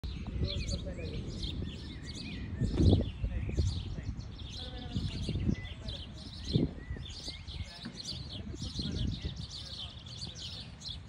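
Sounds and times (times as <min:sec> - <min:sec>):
dull low thumps: 0:00.0 - 0:09.5
small birds chirping: 0:00.0 - 0:11.0.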